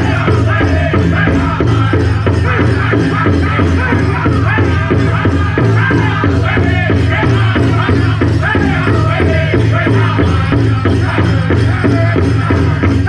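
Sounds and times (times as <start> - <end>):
big drum beat: 0.0 - 13.0
group singing in high voices: 0.0 - 13.0
leg bells jingling: 0.0 - 13.0.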